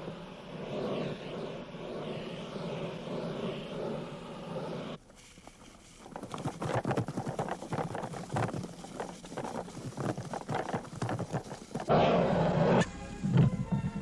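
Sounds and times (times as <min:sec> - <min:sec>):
vegetation crackling as it burns: 0:00.0 - 0:11.9.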